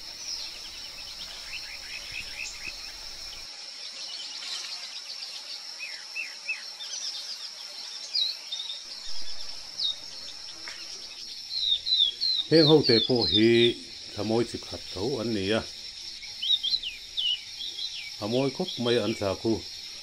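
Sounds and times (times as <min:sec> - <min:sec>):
high-pitched insect drone: 0:00.0 - 0:20.0
small birds chirping: 0:00.0 - 0:20.0.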